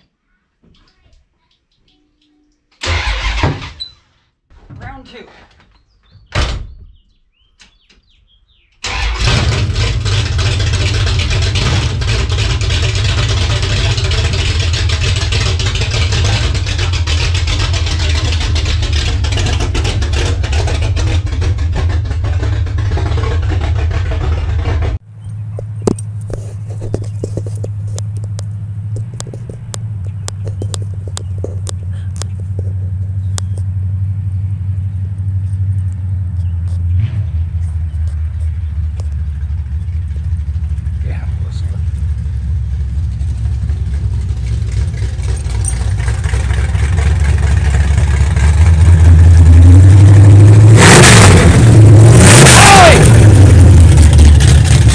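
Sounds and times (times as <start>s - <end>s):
loud engine running: 8.8s - 54.9s.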